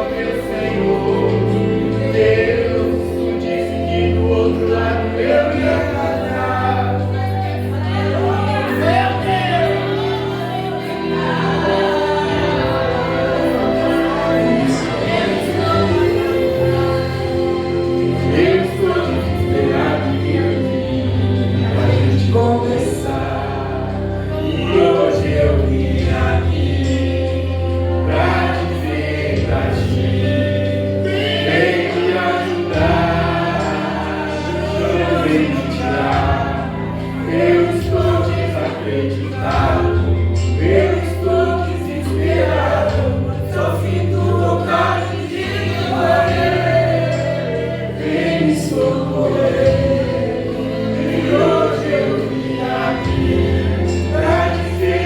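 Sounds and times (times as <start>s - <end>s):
instrumental backing with bass: 0.0s - 55.0s
voices singing gospel song: 0.0s - 55.0s.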